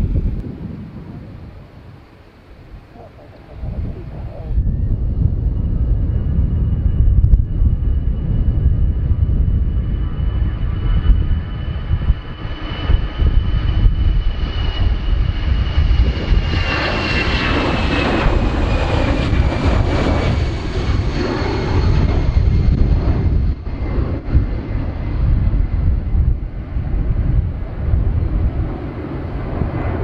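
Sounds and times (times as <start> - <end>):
jet engines rumbling and whining: 0.0 - 30.0
jet passing rush: 0.0 - 30.0.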